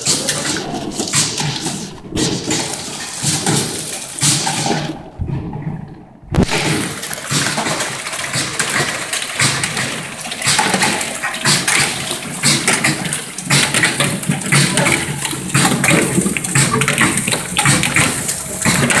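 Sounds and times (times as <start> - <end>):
apple slicing machine clattering: 0.0 - 5.3, 6.3 - 19.0.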